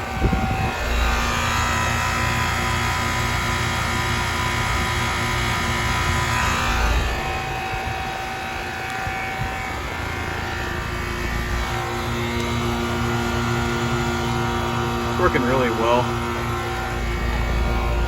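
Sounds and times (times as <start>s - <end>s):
air conditioner compressor hum: 0.0s - 18.0s
condenser fan: 0.0s - 18.0s.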